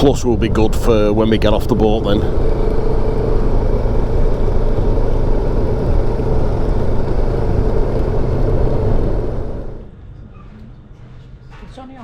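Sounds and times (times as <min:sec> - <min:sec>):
motorcycle wind and engine noise: 0:00.0 - 0:09.9.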